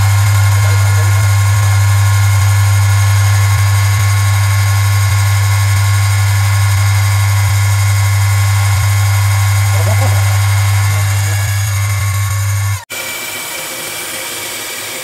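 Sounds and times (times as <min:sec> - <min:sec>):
lathe motor humming: 0:00.0 - 0:15.0.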